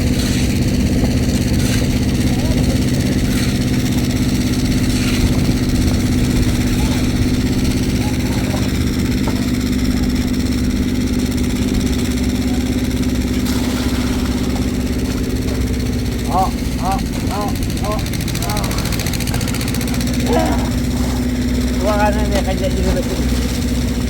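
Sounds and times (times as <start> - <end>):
engine humming steadily: 0.0 - 24.0
faint voices: 1.6 - 23.9.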